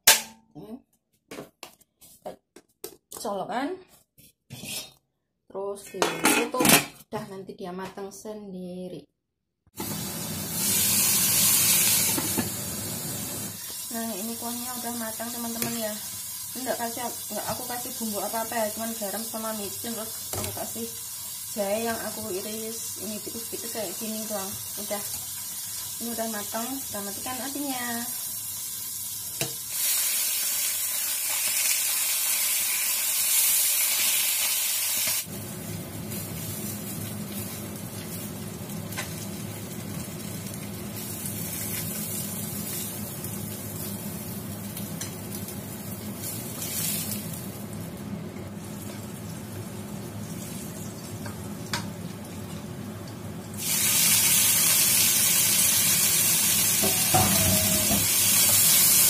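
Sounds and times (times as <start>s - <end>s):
oil sizzling in a wok: 9.8s - 59.0s.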